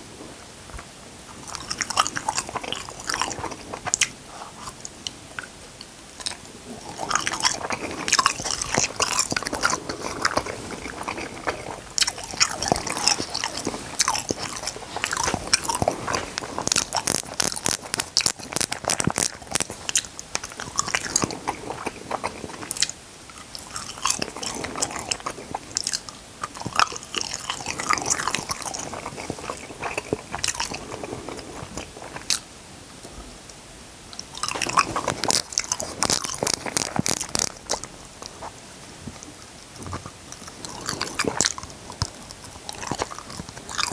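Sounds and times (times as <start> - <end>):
chewing and crunching food: 0.7 - 33.3, 34.1 - 43.9.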